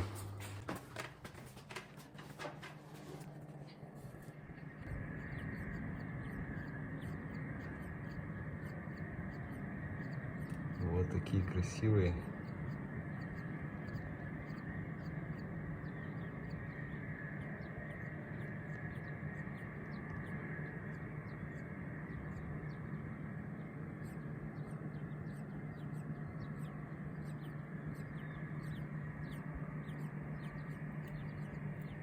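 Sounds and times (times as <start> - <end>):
birds chirping: 0.0 - 32.0
steady low hum: 0.0 - 32.0.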